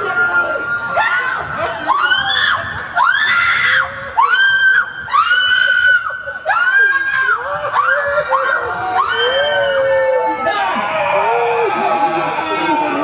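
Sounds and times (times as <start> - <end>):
voices: 0.0 - 13.0
high-pitched screams: 1.0 - 13.0.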